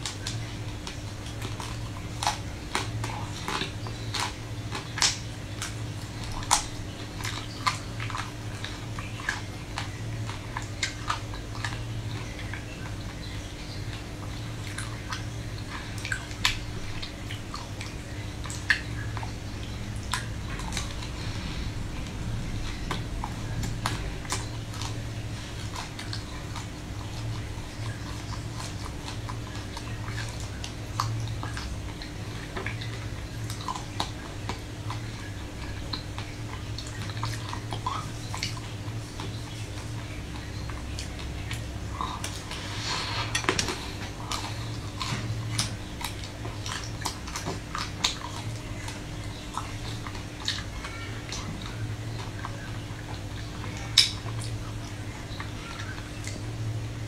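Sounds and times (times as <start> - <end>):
low hum: 0.0 - 50.2
biting and chewing ice cream bar: 0.0 - 56.6.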